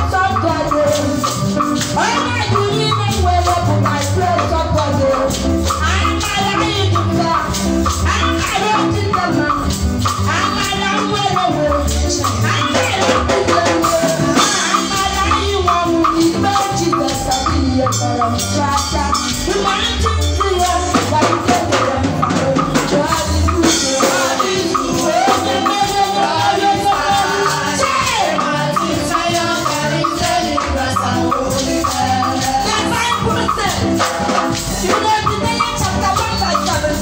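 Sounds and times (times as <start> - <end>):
shaker percussion: 0.0 - 37.0
upbeat gospel music: 0.0 - 37.0
woman singing: 0.0 - 37.0.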